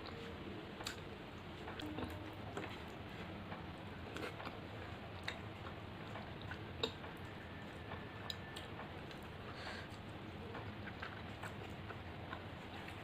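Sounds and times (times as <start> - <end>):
soft chewing: 0.0 - 13.0.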